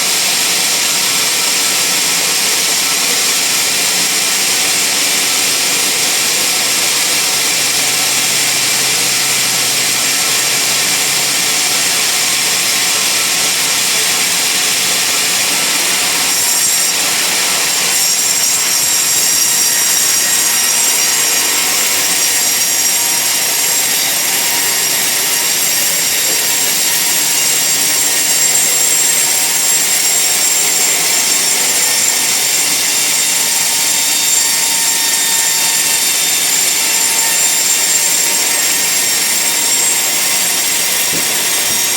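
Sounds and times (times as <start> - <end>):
band saw blade cutting log: 0.0 - 41.9.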